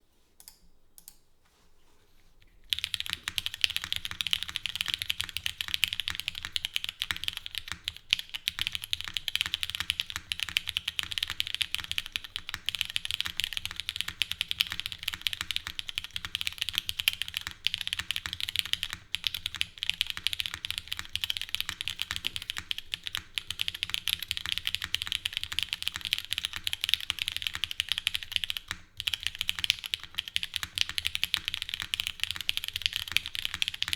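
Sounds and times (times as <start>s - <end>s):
mechanical keyboard typing: 2.7s - 33.9s.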